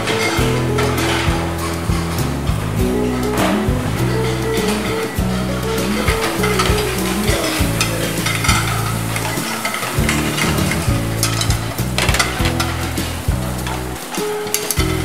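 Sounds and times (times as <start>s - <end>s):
background music with bass line: 0.0s - 15.0s
meat and onions sizzling: 0.0s - 15.0s
spoons stirring in pans: 0.0s - 15.0s.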